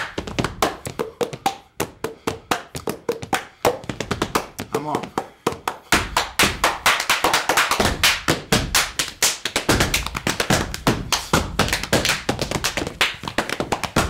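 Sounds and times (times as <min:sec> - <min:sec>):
hand claps: 0:00.0 - 0:14.0.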